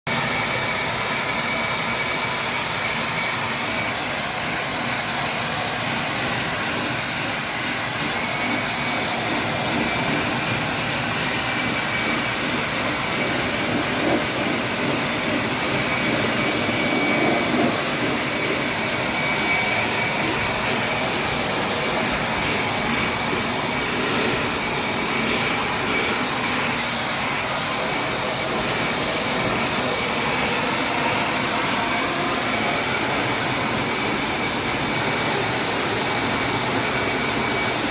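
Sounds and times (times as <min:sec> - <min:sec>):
cleaning machine rushing hiss: 0:00.1 - 0:37.9.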